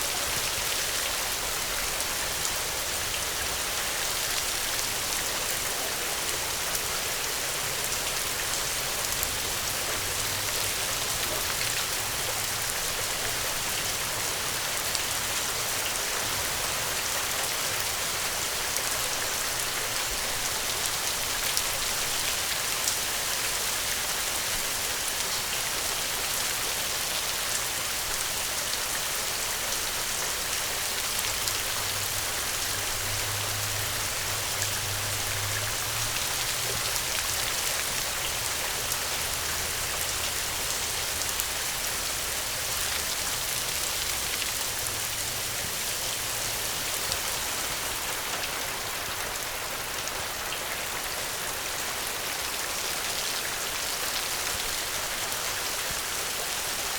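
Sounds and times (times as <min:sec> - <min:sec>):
rain drops pattering: 0:00.0 - 0:56.9.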